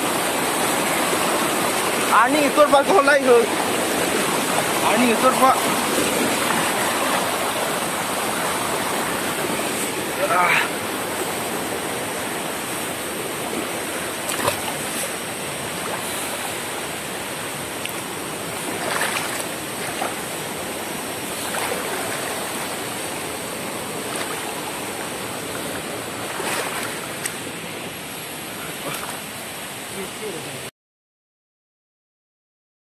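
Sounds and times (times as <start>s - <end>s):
waterfall rushing: 0.0s - 30.7s.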